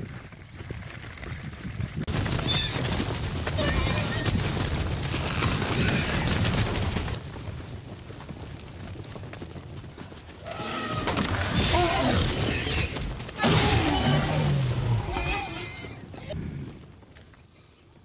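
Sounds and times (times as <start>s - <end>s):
stampede rumble: 1.0s - 17.3s.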